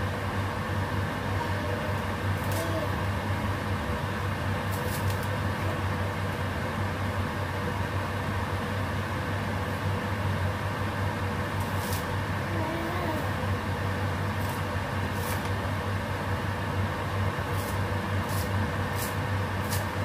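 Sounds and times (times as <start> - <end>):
induction cooktop humming: 0.0 - 20.0.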